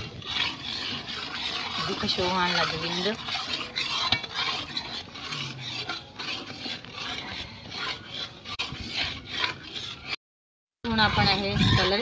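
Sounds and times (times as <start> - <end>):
metal spatula scraping iron pan: 0.0 - 10.2, 10.9 - 12.0.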